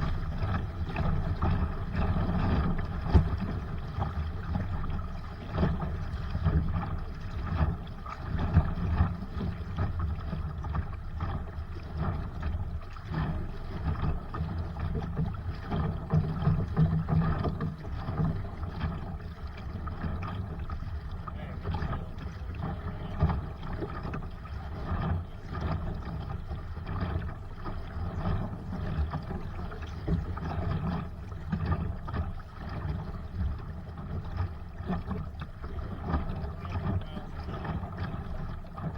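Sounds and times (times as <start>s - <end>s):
water splashing against hull: 0.0s - 38.9s.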